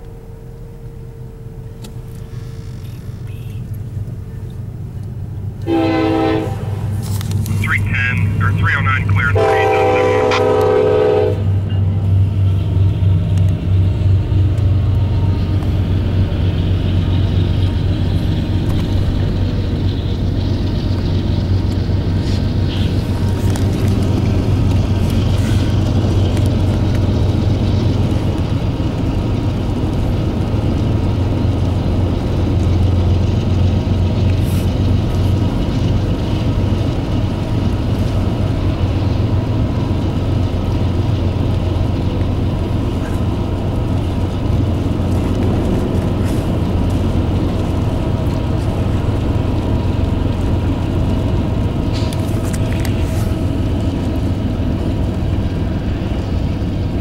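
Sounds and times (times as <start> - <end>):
car cabin road rumble: 0.0 - 5.8, 6.4 - 10.8, 11.4 - 57.0.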